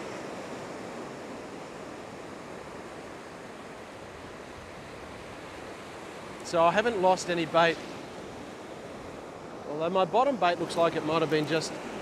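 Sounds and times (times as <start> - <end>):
small surf breaking on sand: 0.0 - 12.0.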